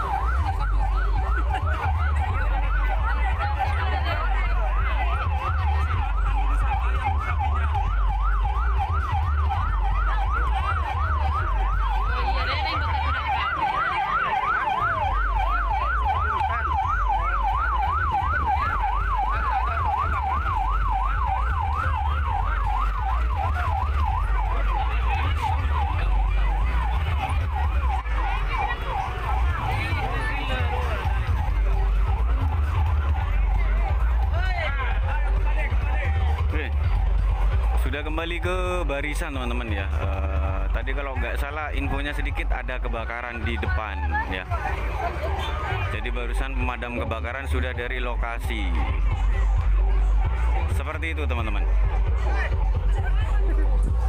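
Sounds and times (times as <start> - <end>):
fire truck siren yelping: 0.0 - 54.0.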